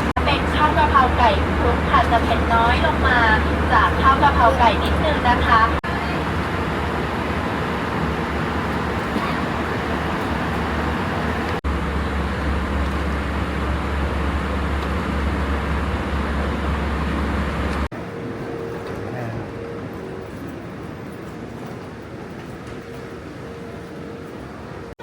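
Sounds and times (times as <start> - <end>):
jet airliner cabin noise: 0.0 - 25.0.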